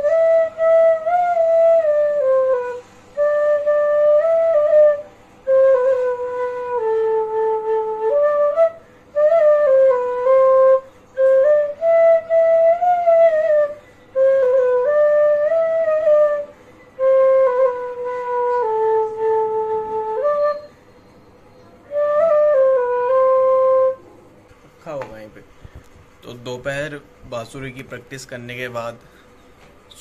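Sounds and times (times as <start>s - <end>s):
bamboo flute melody: 0.0s - 24.2s.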